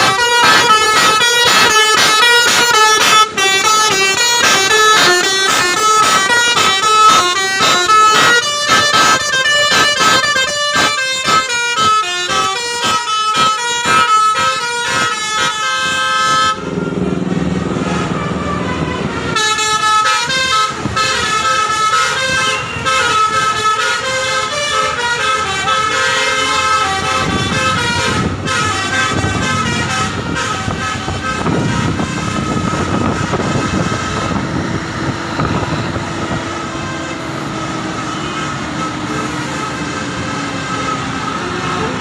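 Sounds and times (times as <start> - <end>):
bus air horns playing a tune: 0.0 - 42.0.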